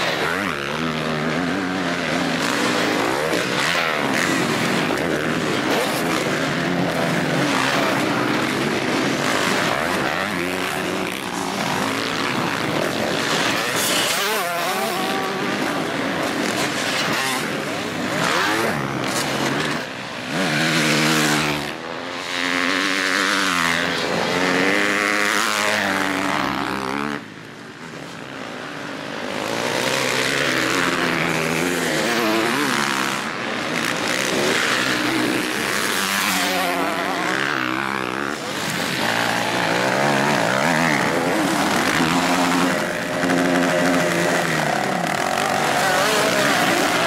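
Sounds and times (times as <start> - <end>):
motocross bike engines revving: 0.0 - 47.0.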